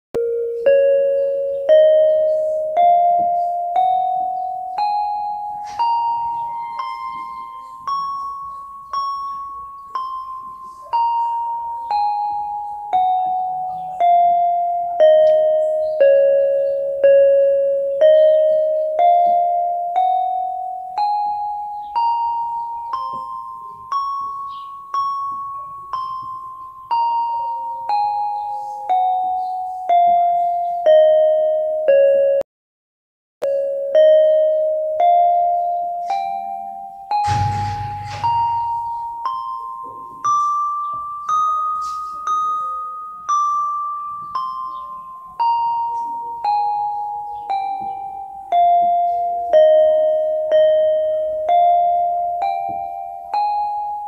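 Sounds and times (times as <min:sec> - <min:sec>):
electronic keyboard playing a scale: 0:00.2 - 0:32.5, 0:33.4 - 0:54.0.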